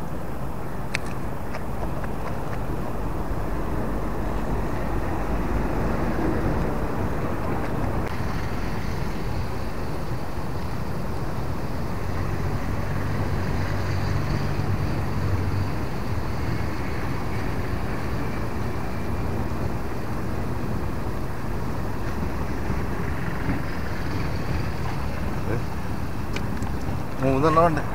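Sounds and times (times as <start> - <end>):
low engine hum: 0.0 - 27.9
passing road traffic: 0.0 - 27.9
wind: 0.0 - 27.9.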